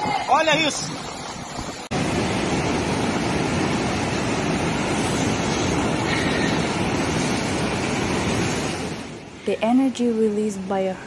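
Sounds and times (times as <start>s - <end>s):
floodwater rushing: 0.0s - 10.9s.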